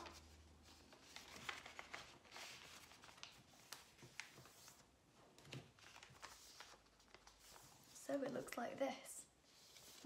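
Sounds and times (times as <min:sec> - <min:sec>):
paper being folded and creased: 0:00.0 - 0:08.2, 0:09.4 - 0:10.0.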